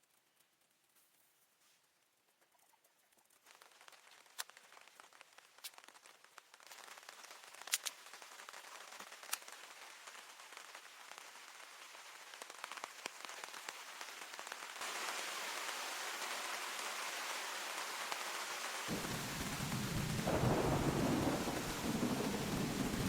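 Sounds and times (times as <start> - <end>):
rain falling: 3.4 - 23.0.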